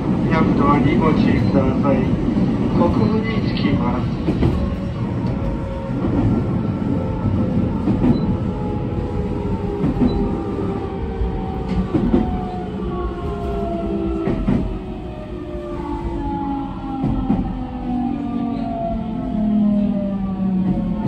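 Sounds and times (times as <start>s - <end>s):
train inverter whine: 0.0s - 21.0s.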